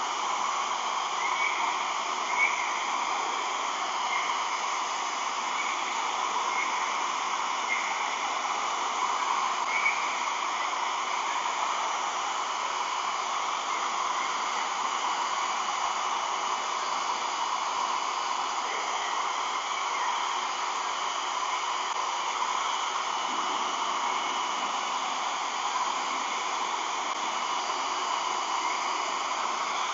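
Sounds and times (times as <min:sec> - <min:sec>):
hair dryer blowing: 0:00.0 - 0:29.9.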